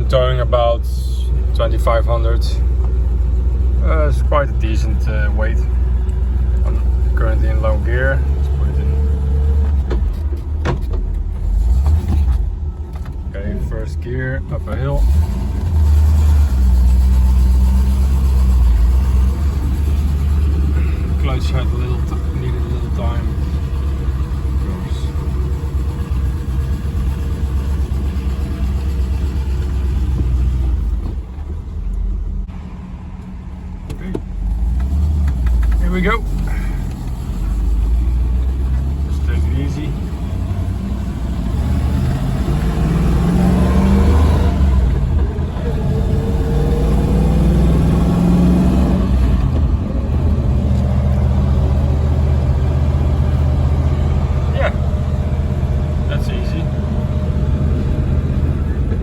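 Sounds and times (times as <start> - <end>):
engine rumbling under heavy load: 0.0 - 59.0.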